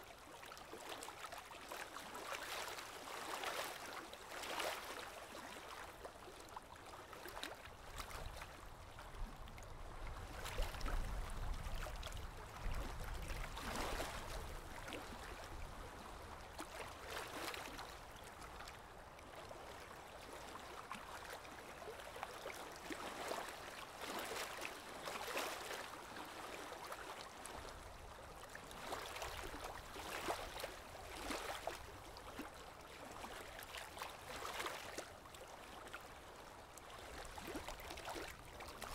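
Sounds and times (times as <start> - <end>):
waves lapping on shore: 0.0 - 38.9.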